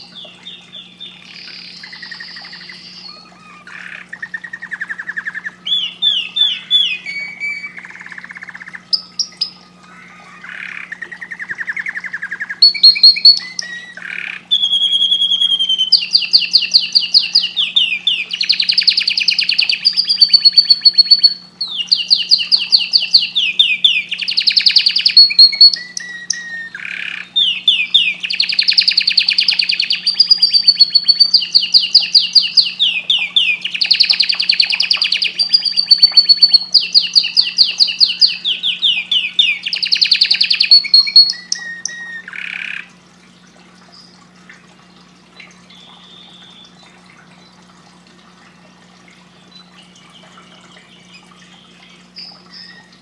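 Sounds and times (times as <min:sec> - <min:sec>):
canary singing trills: 0:00.0 - 0:42.9, 0:45.4 - 0:47.6, 0:49.3 - 0:53.0.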